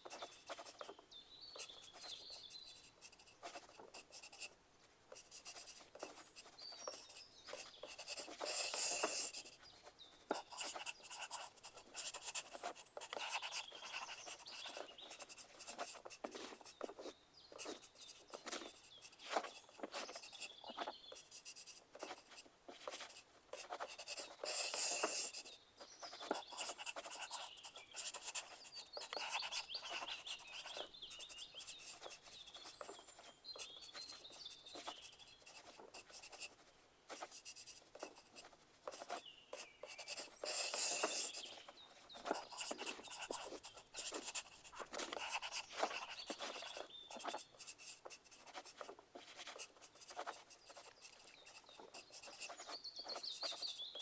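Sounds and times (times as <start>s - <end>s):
pencil scratching on paper: 0.0s - 1.0s, 1.6s - 54.0s.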